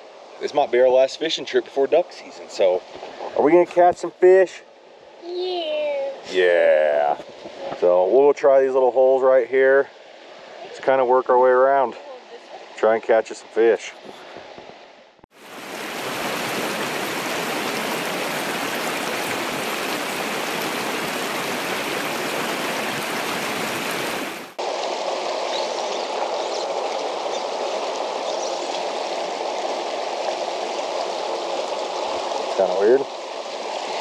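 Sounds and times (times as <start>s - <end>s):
creek running over rocks: 0.0s - 14.6s, 15.3s - 34.0s.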